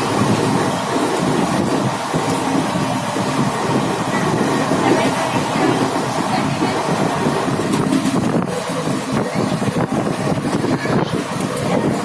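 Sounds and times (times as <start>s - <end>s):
train wheels rumbling on track: 0.0s - 12.0s
wind buffeting microphone: 0.0s - 12.0s.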